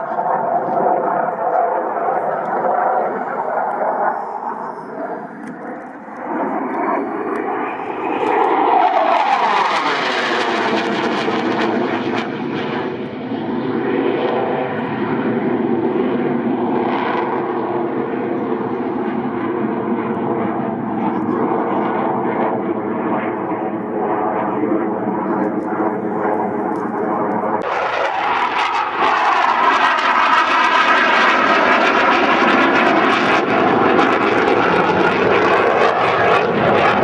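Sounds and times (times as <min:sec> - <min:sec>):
jet aircraft engine whine: 0:00.0 - 0:37.0.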